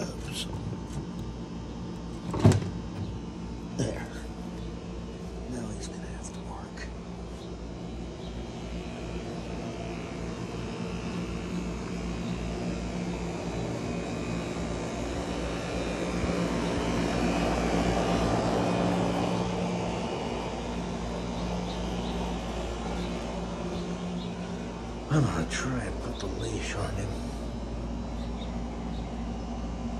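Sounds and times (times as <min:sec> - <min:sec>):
air conditioner unit humming: 0:00.0 - 0:29.9.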